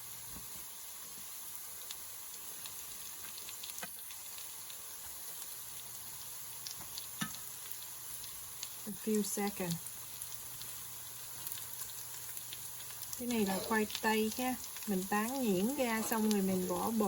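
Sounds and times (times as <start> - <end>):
fries deep-frying in hot oil: 0.0 - 17.0
oil popping and crackling: 0.3 - 17.0.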